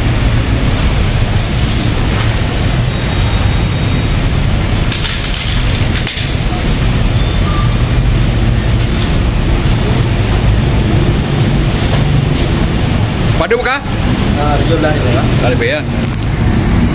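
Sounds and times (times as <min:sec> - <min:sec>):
street background rumble: 0:00.0 - 0:16.9.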